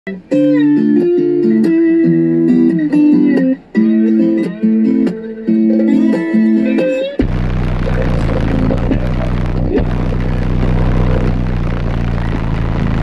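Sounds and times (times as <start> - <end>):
plucked guitar melody: 0.1 - 13.0.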